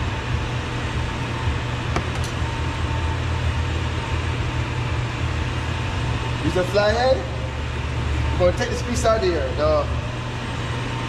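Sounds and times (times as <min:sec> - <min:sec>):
mechanical hum and hiss: 0:00.0 - 0:11.0.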